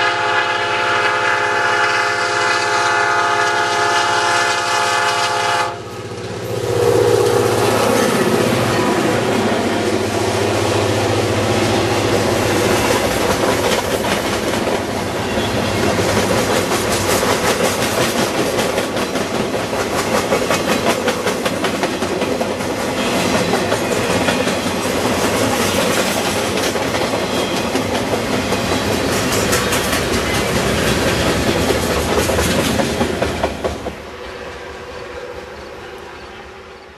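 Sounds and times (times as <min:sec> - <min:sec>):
freight train wheels clicking: 0:01.0 - 0:35.0.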